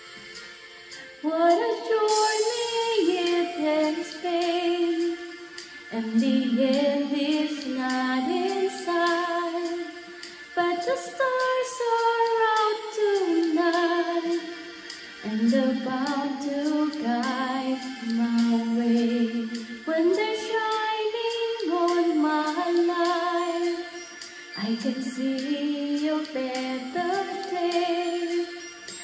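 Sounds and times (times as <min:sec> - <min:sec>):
woman singing a slow ballad: 0:01.0 - 0:28.7.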